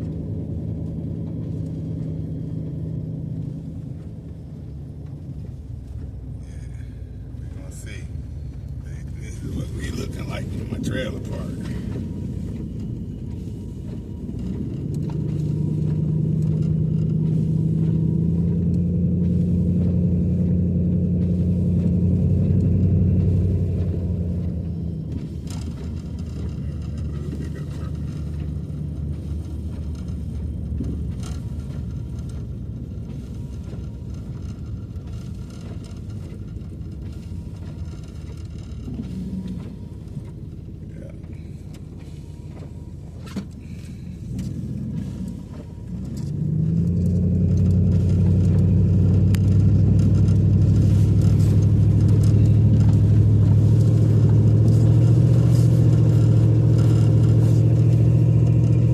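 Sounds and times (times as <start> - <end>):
car engine rumbling and revving: 0.0 - 58.9.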